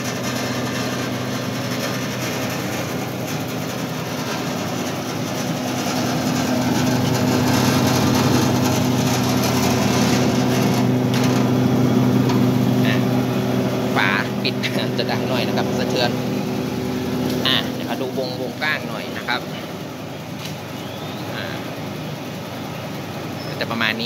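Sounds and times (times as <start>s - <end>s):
fan rushing: 0.0s - 24.0s
grain cleaner motor humming: 0.0s - 24.0s.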